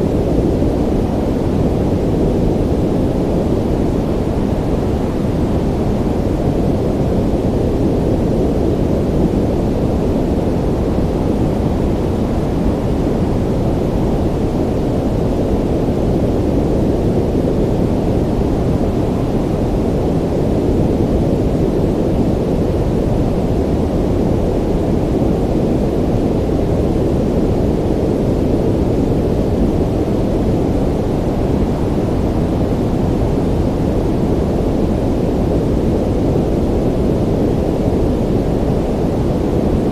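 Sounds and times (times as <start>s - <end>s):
muffled rumble of surf: 0.0s - 39.9s.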